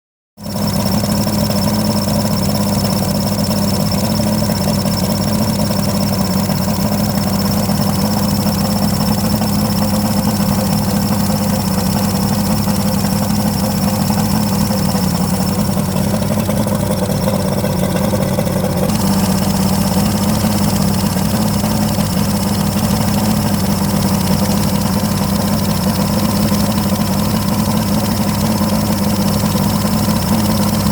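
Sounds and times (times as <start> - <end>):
engine idling: 0.4 - 30.9.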